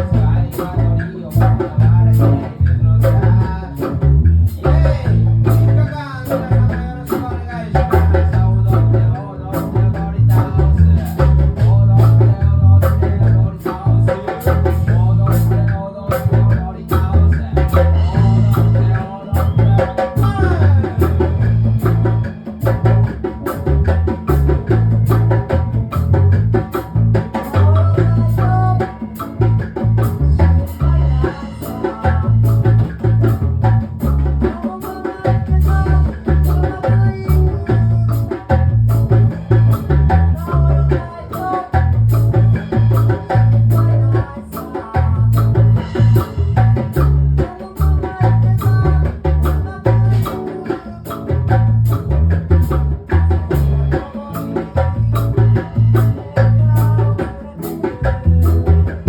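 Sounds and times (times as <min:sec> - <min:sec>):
person singing: 0:00.0 - 0:22.7, 0:27.2 - 0:59.0
heavy rhythmic bass line: 0:00.0 - 0:59.0
live reggae band: 0:00.0 - 0:59.0.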